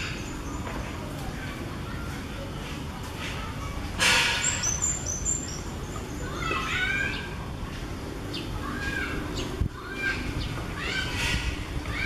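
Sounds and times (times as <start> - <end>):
birds chirping: 0.0 - 2.2, 3.5 - 12.0.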